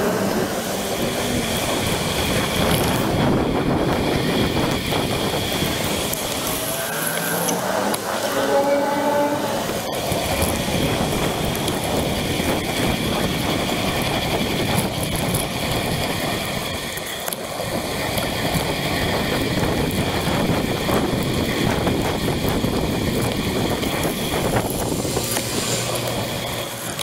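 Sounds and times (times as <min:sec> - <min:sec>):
wind on microphone: 0:00.0 - 0:07.1, 0:07.9 - 0:27.0
bicycle tyres on wet road: 0:00.0 - 0:27.0.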